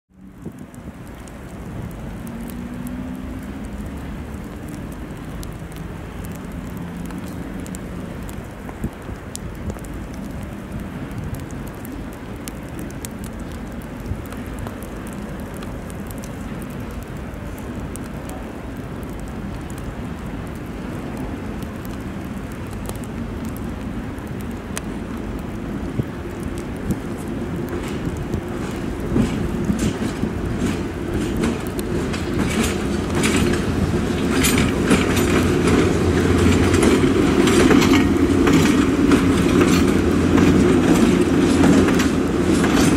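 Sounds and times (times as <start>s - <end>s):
electric locomotive rumbling: 0.2s - 42.9s.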